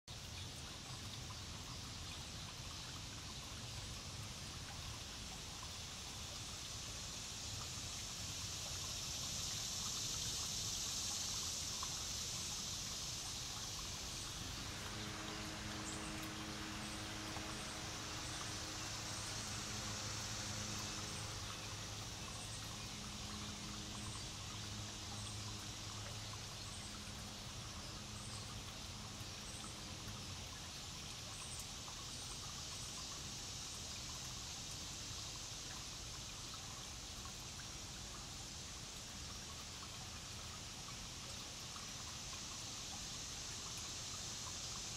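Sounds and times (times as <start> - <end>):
steady background hiss: 0.1 - 44.9.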